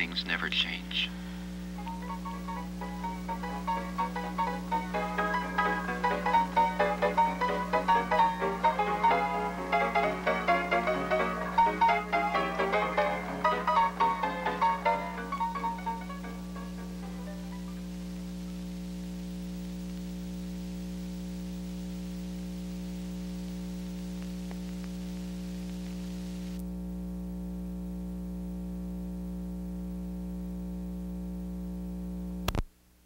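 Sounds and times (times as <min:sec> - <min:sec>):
recording hiss: 0:00.0 - 0:26.6
electrical hum: 0:00.0 - 0:33.0.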